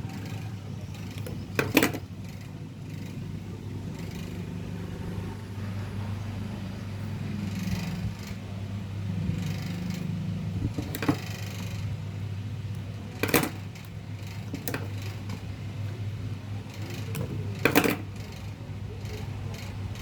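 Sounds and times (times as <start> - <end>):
fan motor humming: 0.0 - 20.0.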